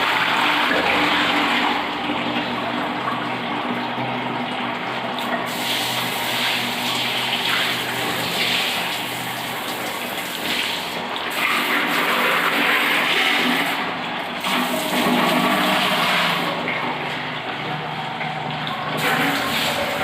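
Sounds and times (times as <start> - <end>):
water running through plumbing: 0.0 - 20.0.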